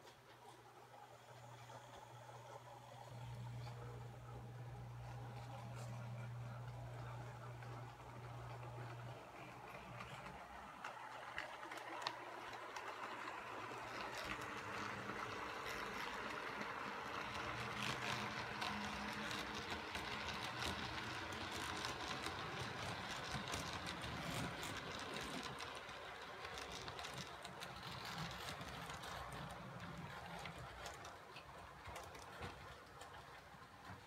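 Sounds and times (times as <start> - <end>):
model train wheels clicking on rails: 0.0 - 34.0.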